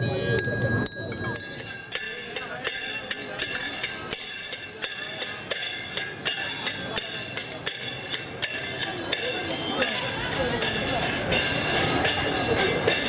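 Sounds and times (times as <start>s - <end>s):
hand bell ringing: 0.0s - 13.0s.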